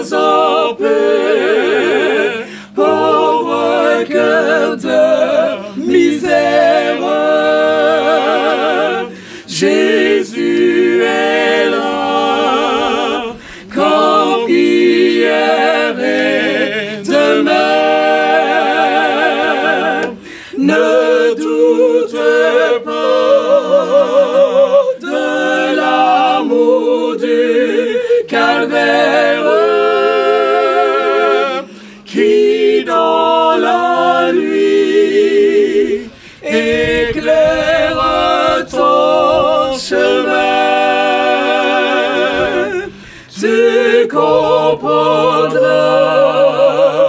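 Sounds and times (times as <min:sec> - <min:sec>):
group singing a hymn a cappella: 0:00.0 - 0:47.0.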